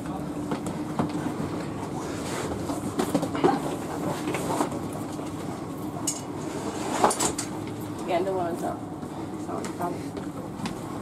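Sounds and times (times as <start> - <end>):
train coach hum: 0.0 - 11.0.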